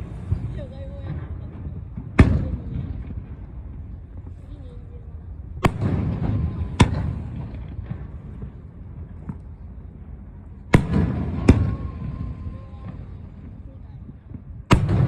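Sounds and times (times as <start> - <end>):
fireworks bursting: 0.0 - 15.0
rolling rumble: 0.0 - 15.0.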